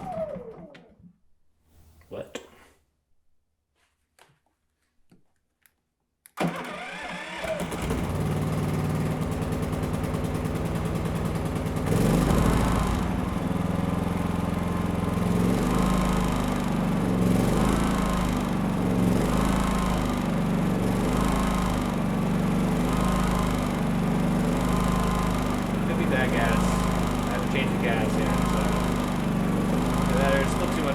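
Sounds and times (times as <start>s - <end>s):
generator engine starting and running: 0.0s - 1.1s, 6.4s - 30.9s.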